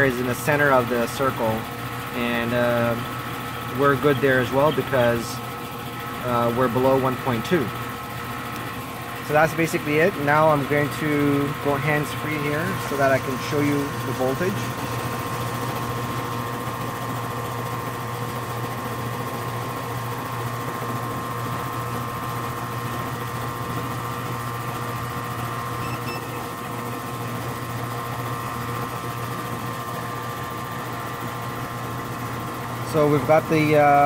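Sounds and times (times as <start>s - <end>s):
air conditioner unit humming: 0.0s - 34.0s.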